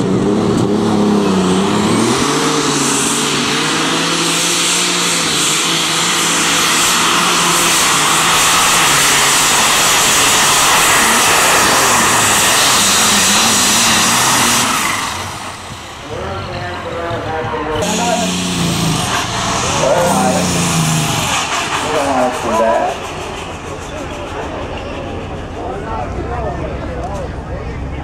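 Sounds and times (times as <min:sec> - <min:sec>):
tractor engine revving: 0:00.0 - 0:28.0.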